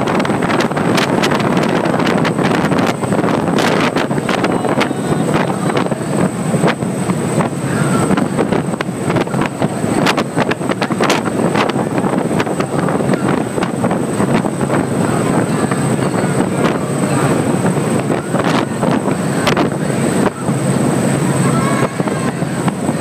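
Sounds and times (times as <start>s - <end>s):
boat engines: 0.0s - 23.0s
water rushing: 0.0s - 23.0s
wind buffeting microphone: 0.0s - 23.0s.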